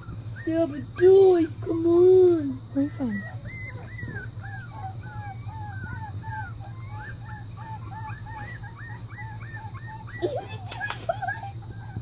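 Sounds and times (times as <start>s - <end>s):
puppies whining: 0.0s - 12.0s.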